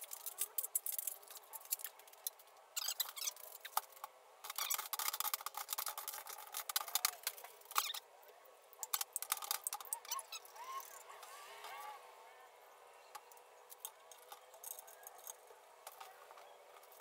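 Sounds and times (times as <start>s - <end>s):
plastic parts clicking and rattling: 0.0s - 8.0s, 8.8s - 11.8s, 13.1s - 17.0s.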